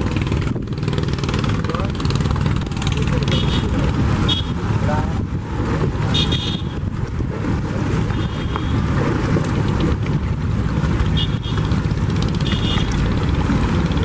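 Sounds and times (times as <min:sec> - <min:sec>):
boat engine rumbling: 0:00.0 - 0:14.0
choppy river water: 0:00.0 - 0:14.0
wind buffeting microphone: 0:00.0 - 0:14.0.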